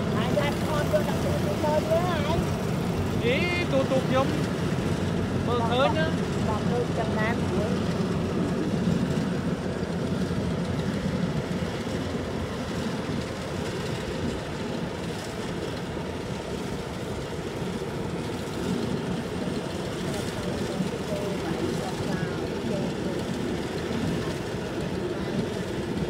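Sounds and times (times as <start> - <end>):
combine harvester engine drone: 0.0 - 26.0.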